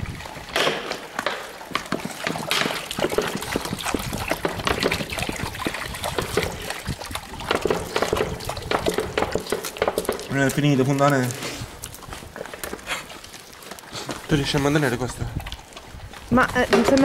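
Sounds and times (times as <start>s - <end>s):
dogs lapping water: 0.0s - 17.0s.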